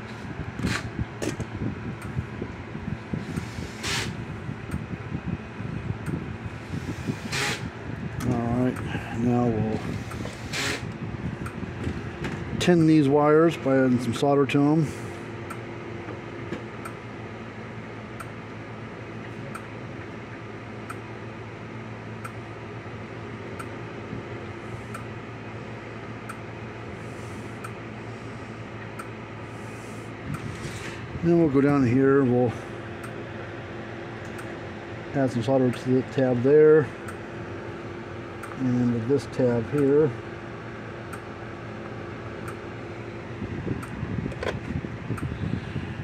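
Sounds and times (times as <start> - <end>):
fan hum: 0.0 - 46.0.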